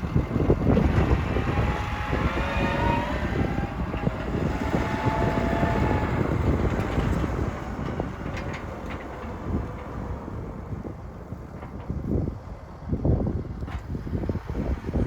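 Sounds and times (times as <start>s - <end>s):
tractor mechanical rumble: 0.0s - 15.0s.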